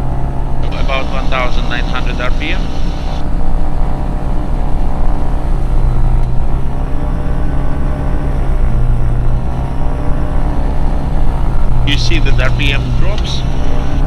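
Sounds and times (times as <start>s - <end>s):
aircraft engine running: 0.0s - 14.0s.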